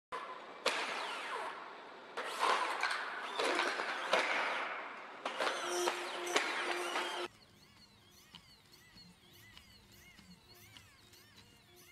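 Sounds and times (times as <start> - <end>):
hydraulic actuators whining: 0.2 - 11.9.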